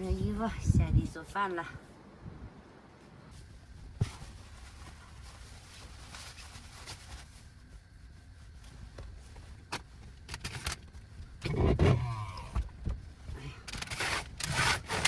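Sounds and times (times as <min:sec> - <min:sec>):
rustling: 0:02.9 - 0:15.0.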